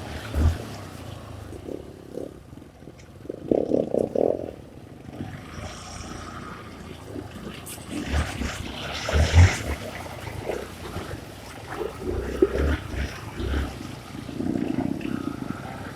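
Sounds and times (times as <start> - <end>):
dirt bike engine running: 0.0 - 15.9.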